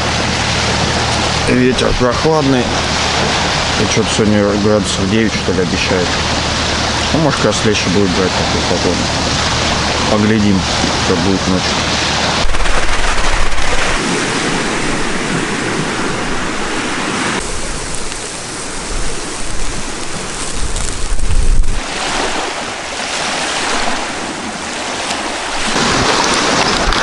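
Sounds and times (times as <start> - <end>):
choppy water: 0.0 - 27.0
wind gusting across microphone: 0.0 - 27.0.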